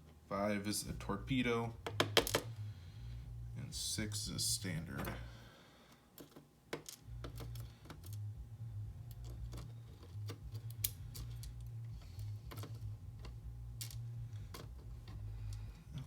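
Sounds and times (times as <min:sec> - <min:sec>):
low hum: 0:00.1 - 0:05.6, 0:07.0 - 0:16.0.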